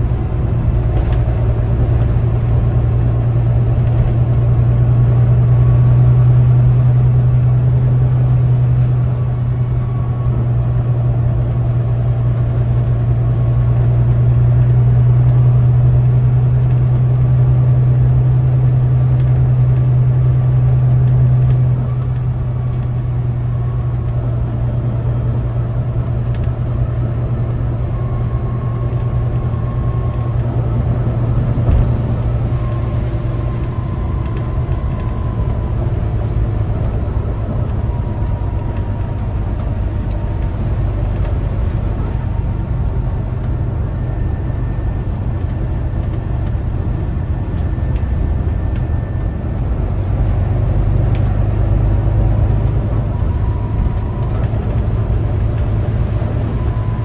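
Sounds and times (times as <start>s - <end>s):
bus engine and road drone: 0.0s - 57.0s
faint pitch-drifting whine: 0.0s - 57.0s.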